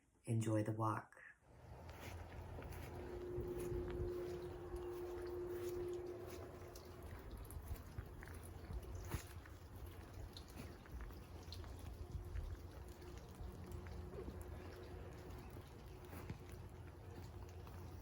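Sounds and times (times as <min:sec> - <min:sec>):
low rumble: 0:01.5 - 0:17.3
rain drops ticking: 0:01.6 - 0:18.0.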